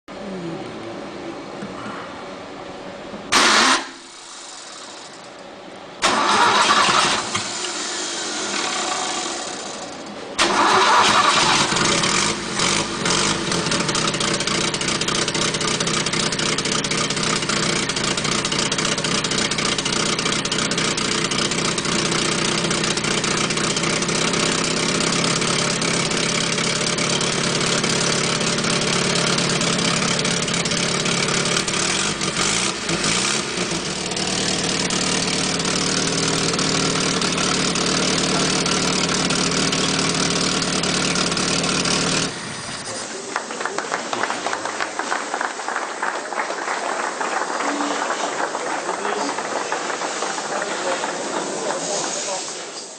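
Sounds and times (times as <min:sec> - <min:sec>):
racing car engine starting: 0:03.3 - 0:52.9.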